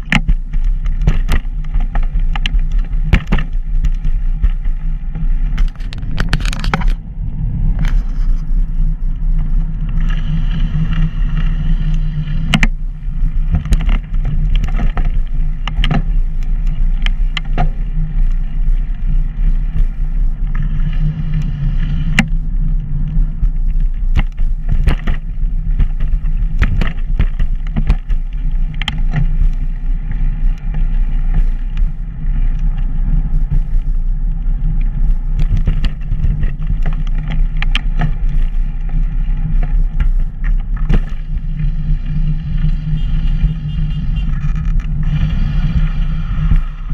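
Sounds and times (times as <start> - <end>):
rolling noise on pavement: 0.0 - 46.9
wind rumble: 0.0 - 46.9.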